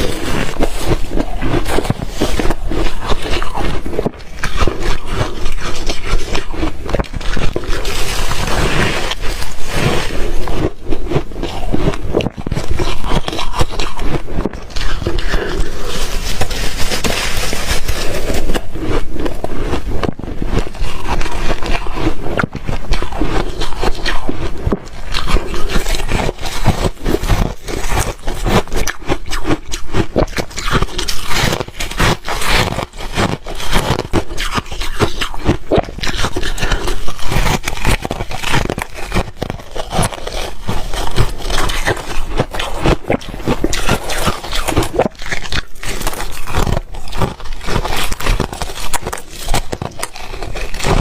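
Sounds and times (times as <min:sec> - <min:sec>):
ice being chewed and crunched: 0:00.0 - 0:51.0.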